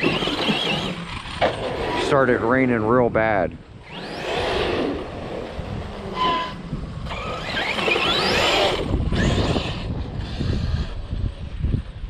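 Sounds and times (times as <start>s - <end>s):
electric motor whining: 0.0s - 2.1s, 3.7s - 11.9s.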